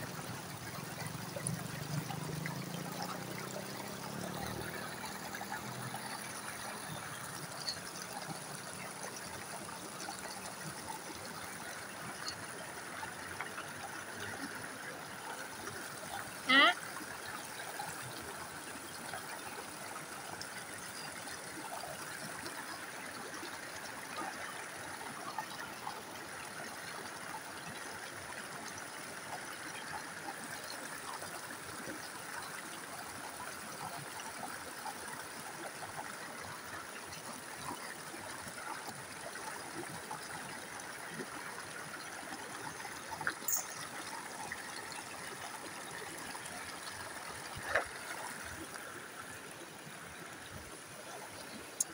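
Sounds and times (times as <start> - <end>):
creek flowing over stones: 0.0 - 51.9.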